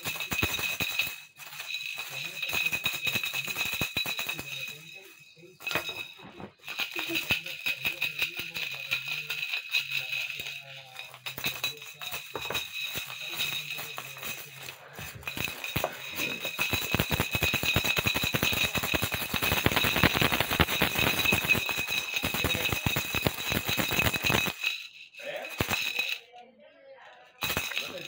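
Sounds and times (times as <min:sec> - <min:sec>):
high jingling rattle: 0:00.0 - 0:28.0.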